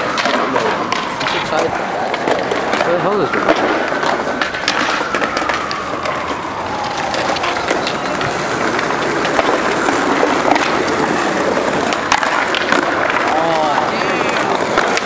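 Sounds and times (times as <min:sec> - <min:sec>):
skateboard wheels rolling on stone: 0:00.0 - 0:15.0
wheels clicking over paver joints: 0:00.0 - 0:15.0.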